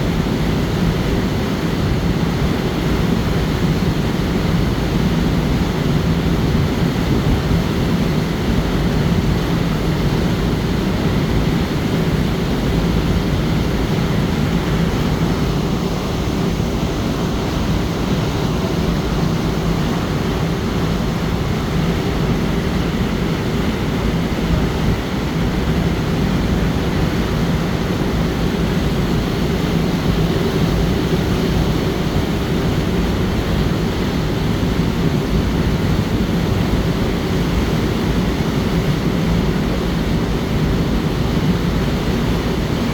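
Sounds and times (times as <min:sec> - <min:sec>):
rushing water and air: 0:00.0 - 0:42.9.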